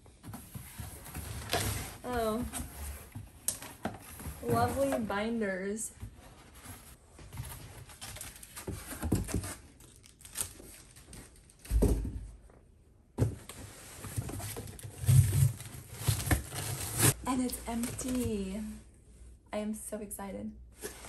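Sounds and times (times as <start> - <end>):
cardboard and plastic rustling: 0.2 - 12.5, 13.2 - 18.7.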